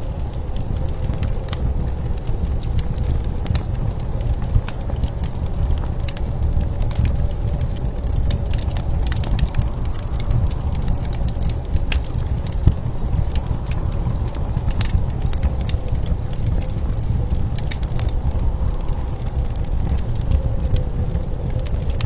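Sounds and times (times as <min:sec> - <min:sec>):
low rumble of wind: 0:00.0 - 0:22.0
wood fire crackling and popping: 0:00.0 - 0:22.0.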